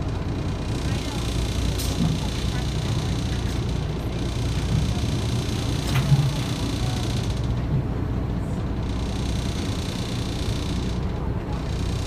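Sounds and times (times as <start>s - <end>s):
boat engine droning: 0.0s - 12.0s
wind: 0.0s - 12.0s.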